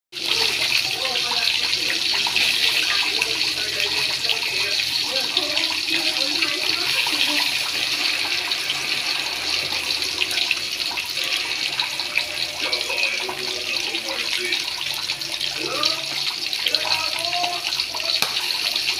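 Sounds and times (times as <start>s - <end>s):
fish frying in hot oil: 0.1s - 18.9s.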